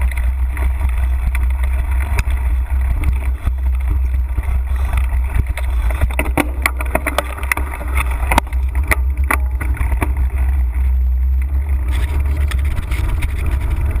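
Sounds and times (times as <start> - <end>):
bike rattling and clacking: 0.0 - 14.0
low wind rumble on microphone: 0.0 - 14.0.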